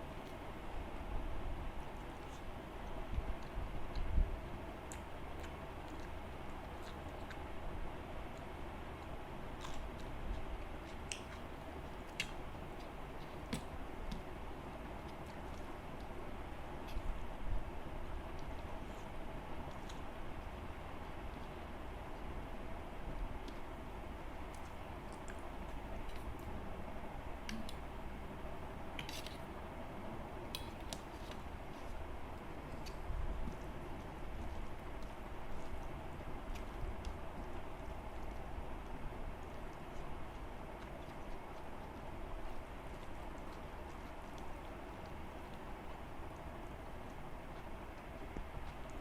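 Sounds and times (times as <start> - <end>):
low background hum: 0.0 - 49.0
person chewing food: 1.8 - 17.3, 23.3 - 26.6, 27.2 - 29.6, 30.5 - 49.0.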